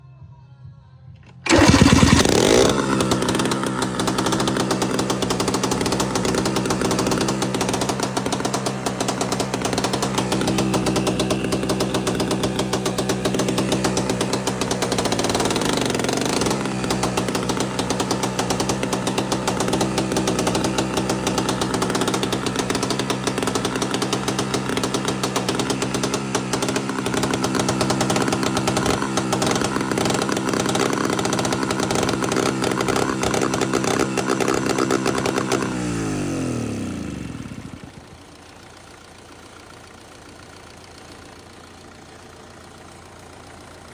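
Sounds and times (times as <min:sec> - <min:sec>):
engine spinning down: 0:01.2 - 0:43.9
tractor engine running: 0:01.2 - 0:43.9.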